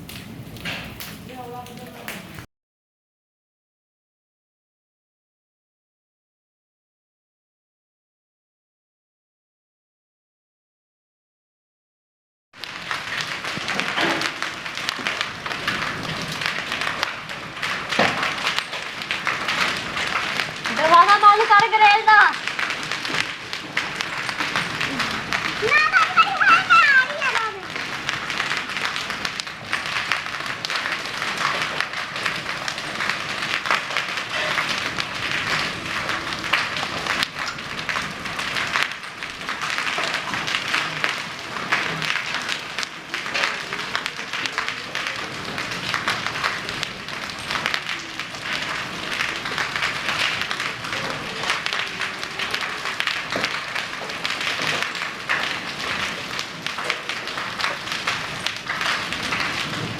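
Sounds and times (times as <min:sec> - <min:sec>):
hailstones pelting down: 0:00.0 - 0:02.5, 0:12.6 - 0:59.9.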